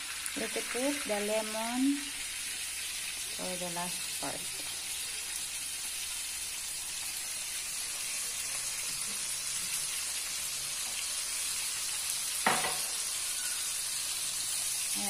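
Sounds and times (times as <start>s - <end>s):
pan juices sizzling: 0.0s - 15.0s.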